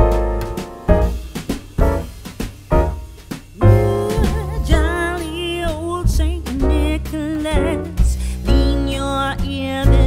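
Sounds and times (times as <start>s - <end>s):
music from another room: 0.0s - 10.0s.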